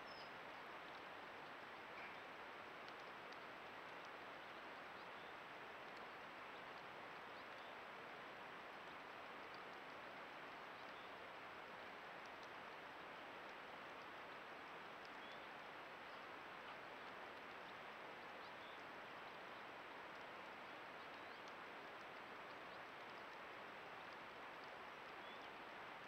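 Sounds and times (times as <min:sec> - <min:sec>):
microphone hiss: 0:00.0 - 0:26.0.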